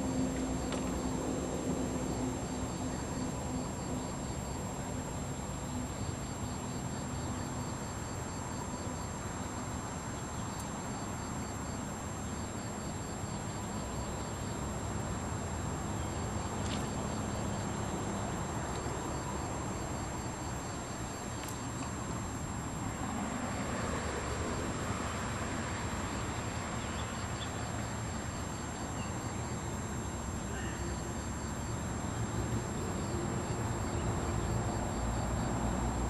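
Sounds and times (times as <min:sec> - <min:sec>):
outdoor rumble and hiss: 0:00.0 - 0:36.0.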